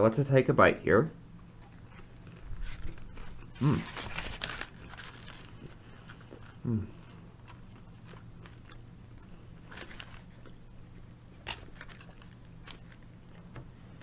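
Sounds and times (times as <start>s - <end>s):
steady low hum: 0.0s - 14.0s
chewing crispy food: 1.5s - 14.0s.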